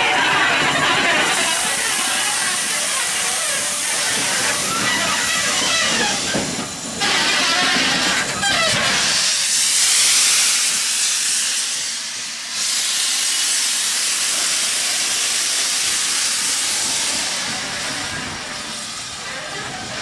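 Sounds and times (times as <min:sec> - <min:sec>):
steam hissing: 0:00.0 - 0:20.0.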